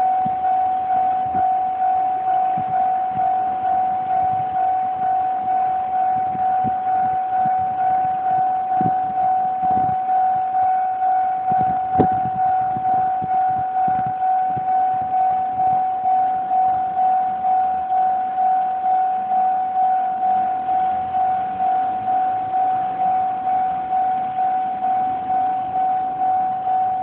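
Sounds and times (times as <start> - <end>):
level-crossing alarm bell ding: 0.0 - 27.0.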